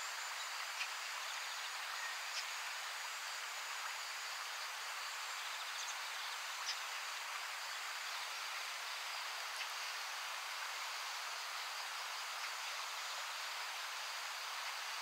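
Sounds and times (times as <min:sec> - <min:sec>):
steady river hiss: 0:00.0 - 0:15.0.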